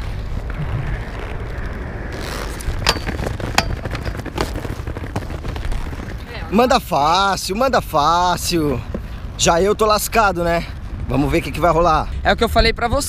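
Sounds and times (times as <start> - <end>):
skate wheels rolling on concrete: 0.0 - 13.0.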